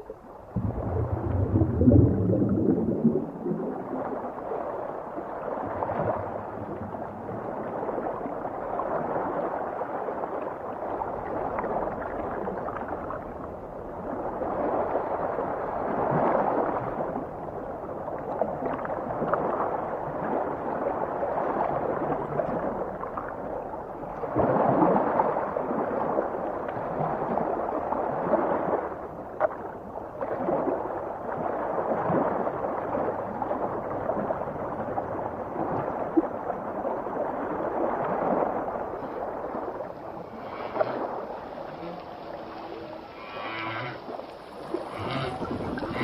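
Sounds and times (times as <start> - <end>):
underwater churning water: 0.0 - 46.0.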